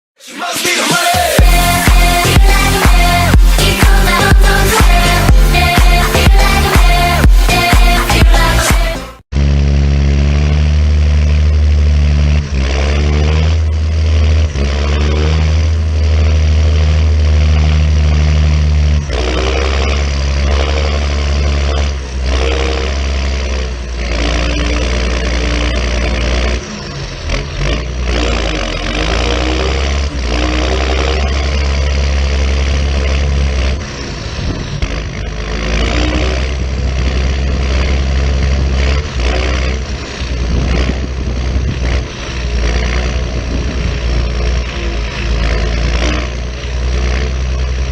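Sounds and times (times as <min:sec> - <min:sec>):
tractor diesel engine revving: 0:00.4 - 0:47.9.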